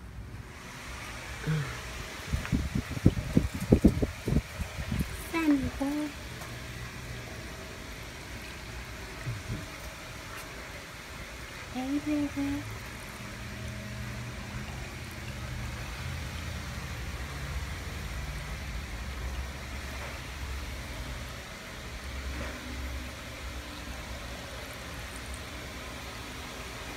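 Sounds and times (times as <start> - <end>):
filter outflow splashing water: 0.0 - 26.9.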